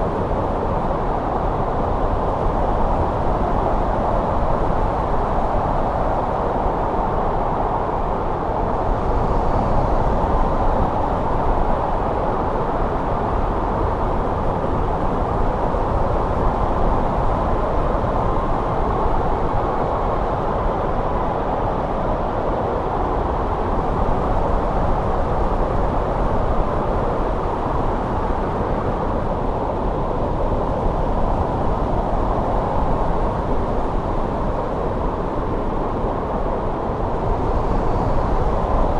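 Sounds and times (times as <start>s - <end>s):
snowstorm wind rushing: 0.0s - 38.9s.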